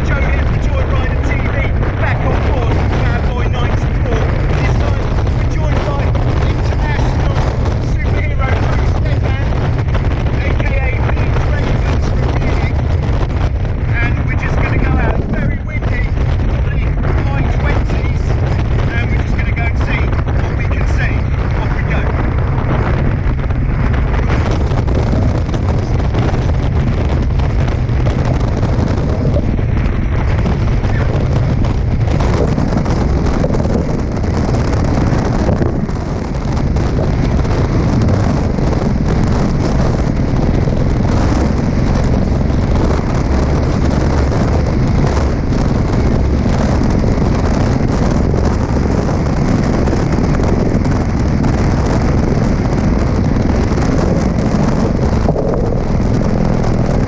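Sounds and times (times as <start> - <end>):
water rushing past boat: 0.0 - 57.0
wind buffeting microphone: 0.0 - 57.0.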